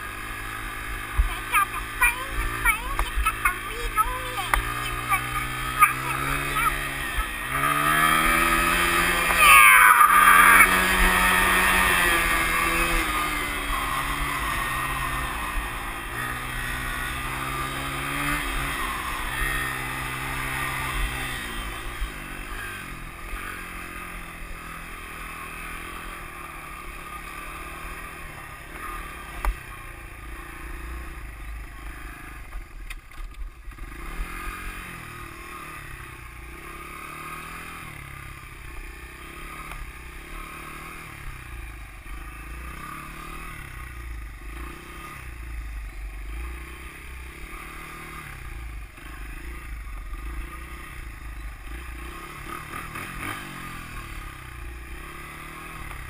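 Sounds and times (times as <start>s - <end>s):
dirt bike engine revving: 0.0s - 32.6s, 33.6s - 56.0s.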